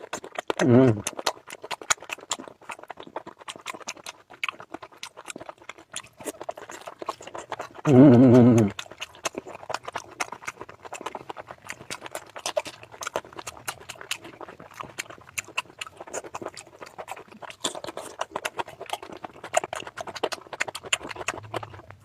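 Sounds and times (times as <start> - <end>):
wet chewing and mouth smacking: 0.0 - 22.0.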